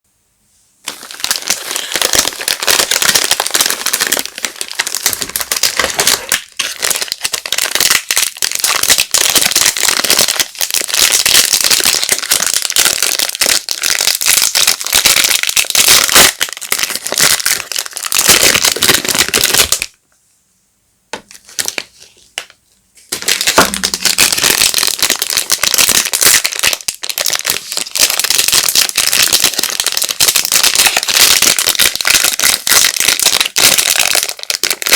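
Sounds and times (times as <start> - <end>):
soap wrappers crinkling: 0.8 - 19.9, 21.2 - 34.9.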